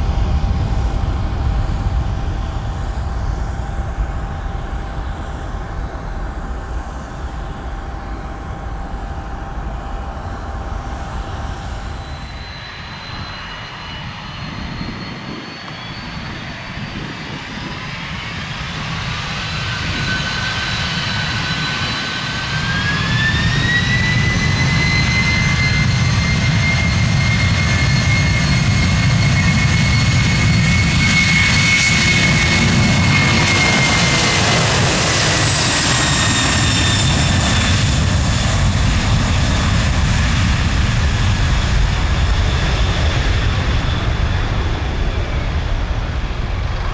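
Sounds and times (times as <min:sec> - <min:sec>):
distant jet noise: 0:00.0 - 0:46.9
jet engines spooling up: 0:00.0 - 0:46.9.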